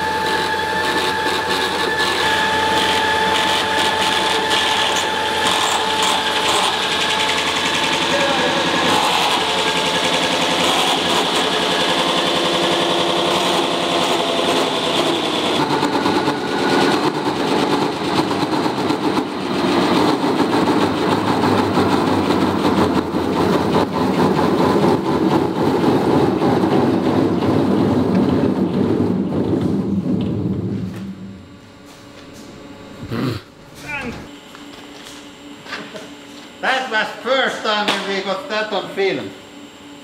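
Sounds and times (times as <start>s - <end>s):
lathe machine whine: 0.0s - 33.0s, 33.6s - 40.0s.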